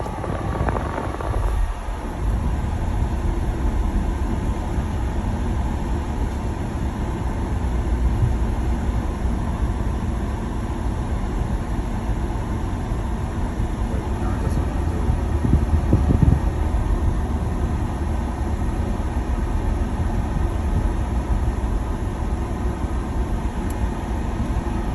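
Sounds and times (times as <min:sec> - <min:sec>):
car cabin low rumble: 0:00.0 - 0:24.9.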